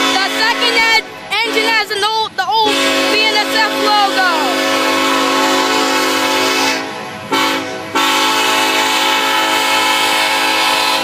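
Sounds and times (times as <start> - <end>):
locomotive air horn blasts: 0.0 - 11.0
low rumble of passing train: 0.0 - 11.0.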